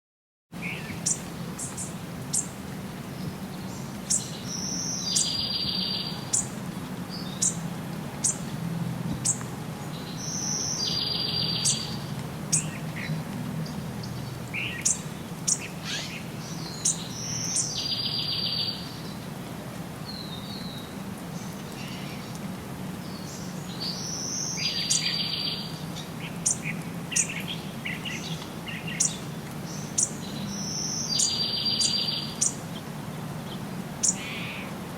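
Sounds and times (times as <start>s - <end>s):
songbirds chirping: 0.6s - 34.9s.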